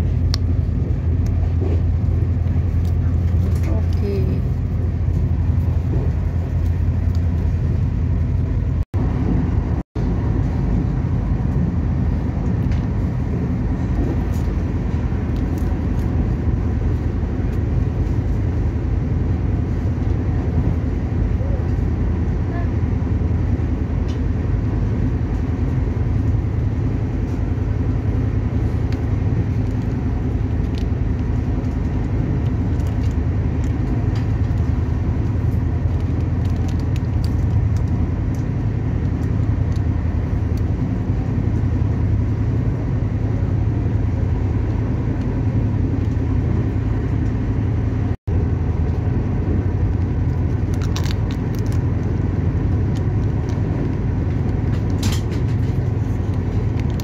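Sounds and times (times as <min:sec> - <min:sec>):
train rumbling at speed: 0:00.0 - 0:57.0.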